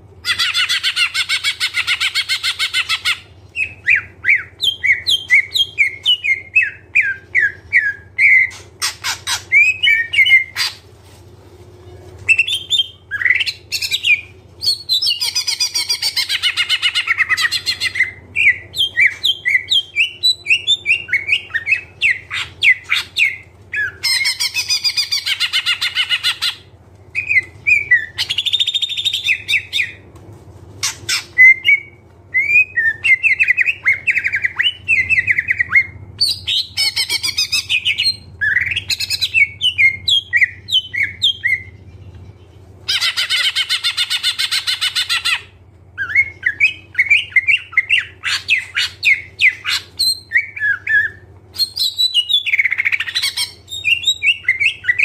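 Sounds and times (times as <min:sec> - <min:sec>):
faint low hum: 0:00.0 - 0:55.0
bird song chirps and whistles: 0:00.2 - 0:10.8, 0:12.2 - 0:30.0, 0:30.8 - 0:55.0.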